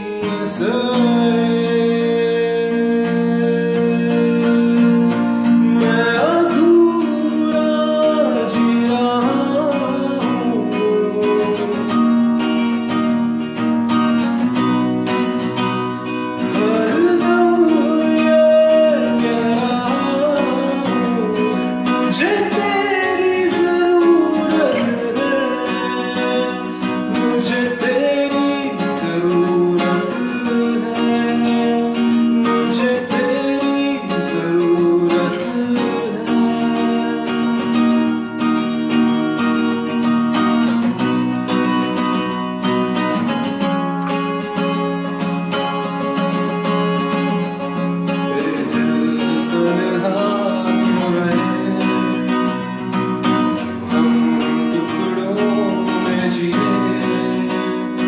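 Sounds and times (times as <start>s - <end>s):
man singing a ballad: 0.0s - 13.2s, 15.0s - 40.0s, 46.4s - 58.0s
acoustic guitar: 0.0s - 58.0s.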